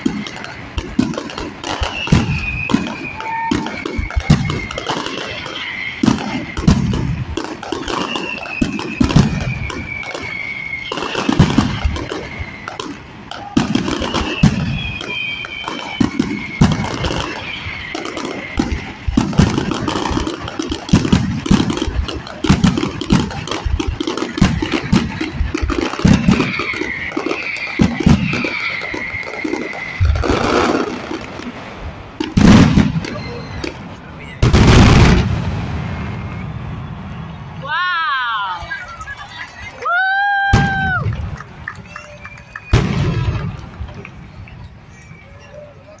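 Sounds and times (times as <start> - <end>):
fireworks bangs and booms: 0.0 - 45.6
fireworks crackling: 0.0 - 46.0
fireworks whistles: 0.0 - 46.0.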